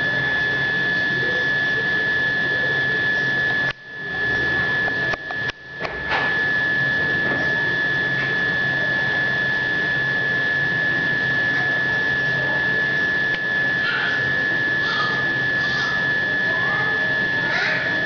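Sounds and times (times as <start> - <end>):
high-pitched whine: 0.0 - 18.0.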